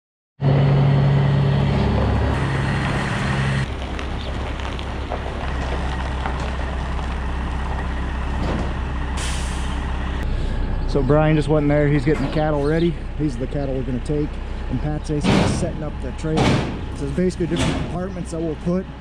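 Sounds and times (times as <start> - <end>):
diesel truck engine running: 0.4 - 19.0.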